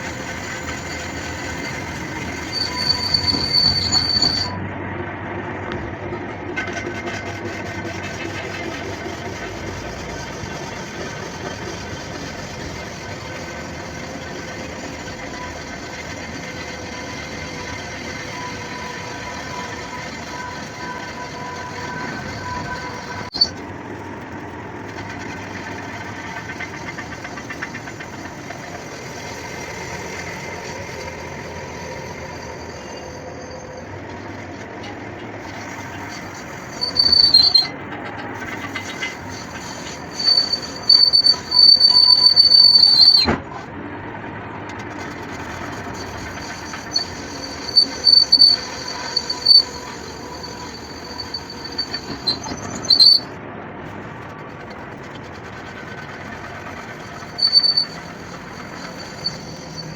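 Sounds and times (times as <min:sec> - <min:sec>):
high-pitched metal squeals: 0:00.0 - 0:04.7, 0:06.6 - 0:23.7, 0:25.2 - 0:43.4, 0:45.1 - 0:53.4, 0:54.4 - 0:59.9
metalworking machinery running: 0:00.0 - 0:59.9.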